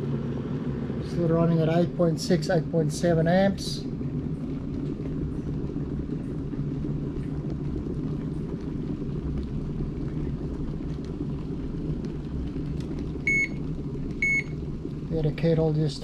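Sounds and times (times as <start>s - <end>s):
electric kettle heating: 0.0s - 16.0s.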